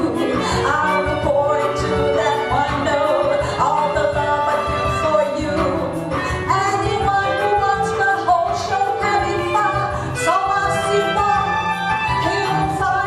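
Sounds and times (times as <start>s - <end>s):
cello: 0.0s - 13.0s
violin: 0.0s - 13.0s
woman singing: 0.0s - 13.0s.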